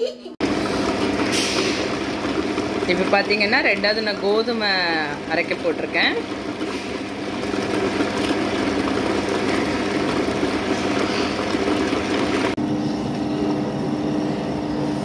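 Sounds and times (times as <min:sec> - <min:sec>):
grinding and sloshing batter: 0:00.4 - 0:12.6
wet grinder motor hum: 0:00.4 - 0:15.0.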